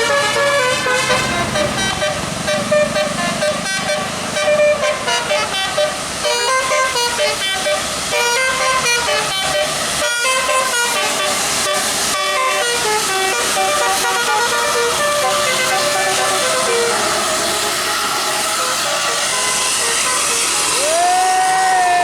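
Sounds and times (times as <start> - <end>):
musical air horn tune: 0.0 - 21.8.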